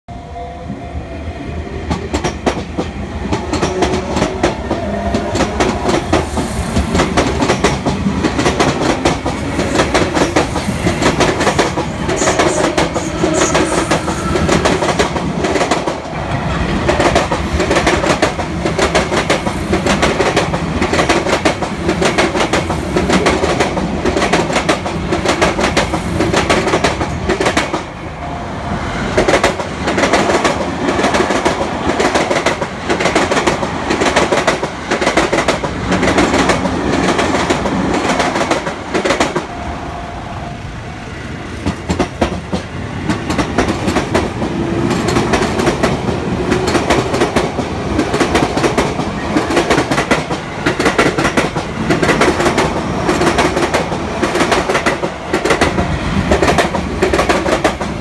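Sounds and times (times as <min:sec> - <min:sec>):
train rolling noise: 0:00.1 - 0:58.0.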